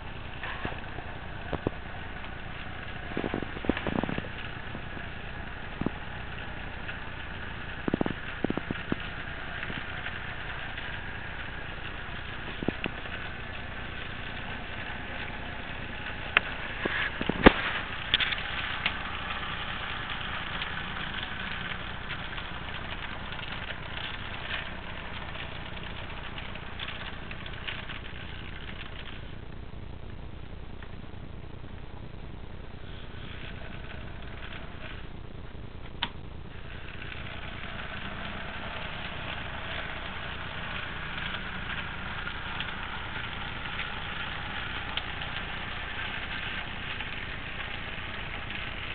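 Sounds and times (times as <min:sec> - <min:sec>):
model locomotive humming: 0:00.0 - 0:29.7, 0:32.7 - 0:48.9.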